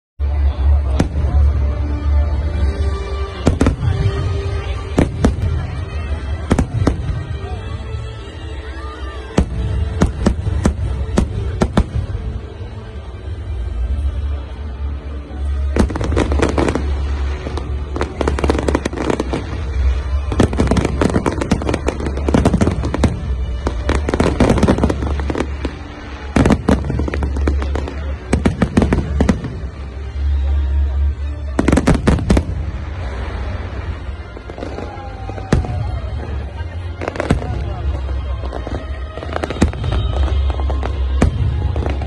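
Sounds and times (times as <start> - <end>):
fireworks bursting and crackling: 0.2 - 12.8, 15.3 - 42.0.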